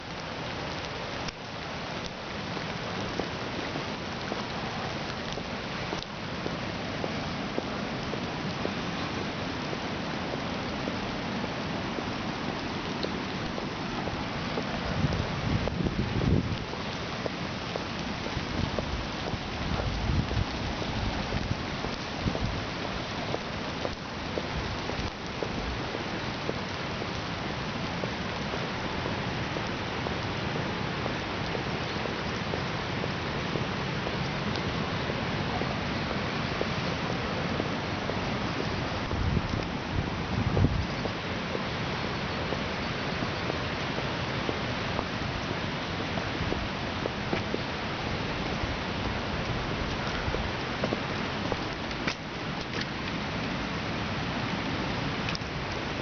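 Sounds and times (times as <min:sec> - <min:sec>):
rain drop ticks: 0:00.0 - 0:30.3, 0:30.9 - 0:53.8, 0:55.2 - 0:56.0
steady rain falling: 0:00.0 - 0:56.0.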